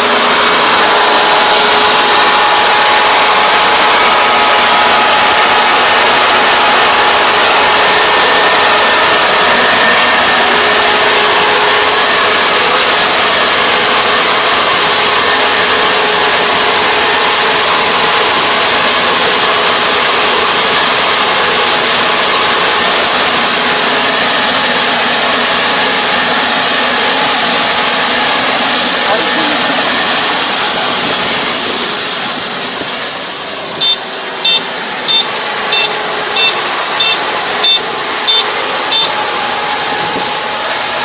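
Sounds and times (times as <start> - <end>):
combine harvester running: 0.0 - 41.0.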